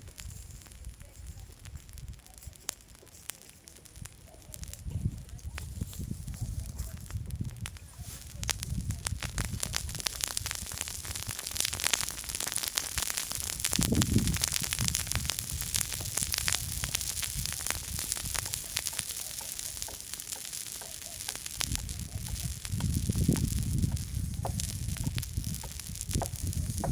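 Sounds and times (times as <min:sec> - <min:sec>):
campfire crackling: 0:00.0 - 0:26.9.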